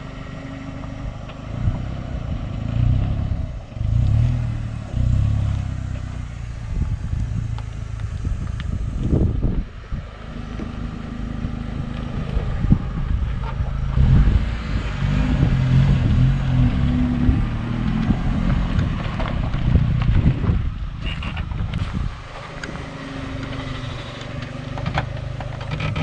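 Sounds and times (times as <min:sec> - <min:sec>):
off-road vehicle engine revving: 0:00.0 - 0:26.0.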